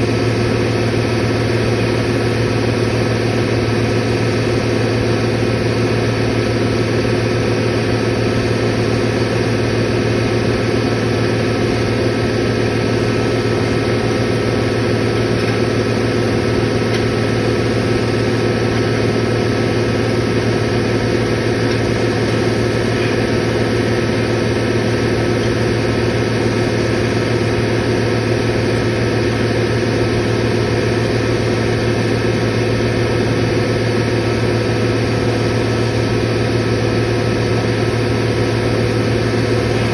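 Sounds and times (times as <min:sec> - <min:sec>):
motor-driven machinery humming: 0:00.0 - 0:39.9.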